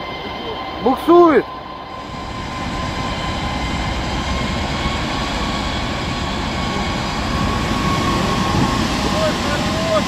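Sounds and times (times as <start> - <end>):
diesel locomotive engine running hard: 0.0 - 10.0
high engine whine: 0.0 - 10.0.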